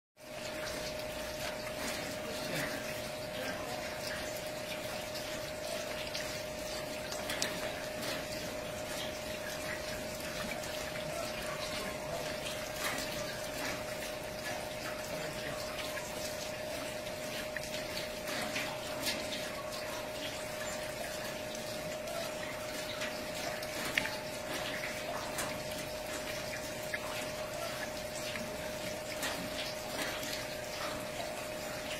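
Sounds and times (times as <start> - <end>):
small clicks and drips: 0.2 - 31.9
water pouring and splashing: 0.2 - 31.9.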